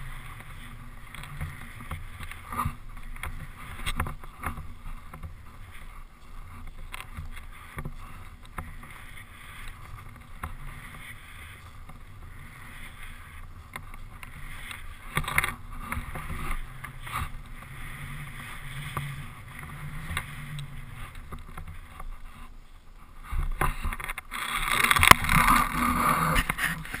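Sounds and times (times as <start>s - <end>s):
skis scraping through snow: 0.0s - 27.0s.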